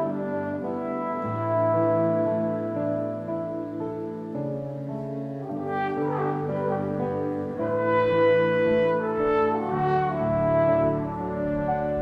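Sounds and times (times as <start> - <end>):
wind band playing held chords: 0.0 - 4.5, 5.4 - 12.0.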